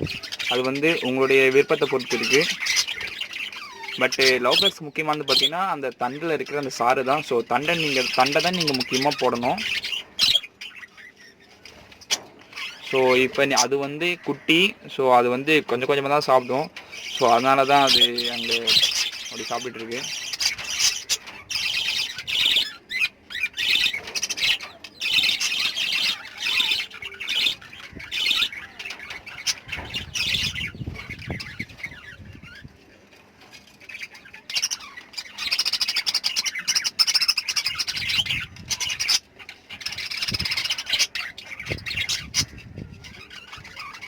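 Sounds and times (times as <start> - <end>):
lovebirds squawking: 0.0 - 44.0.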